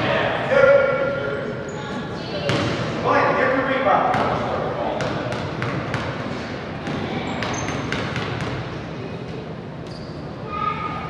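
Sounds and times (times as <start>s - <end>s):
gym background noise: 0.0s - 11.0s.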